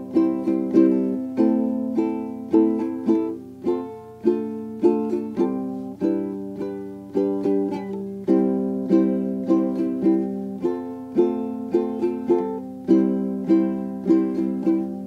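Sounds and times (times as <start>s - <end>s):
plucked string chords: 0.0s - 15.0s.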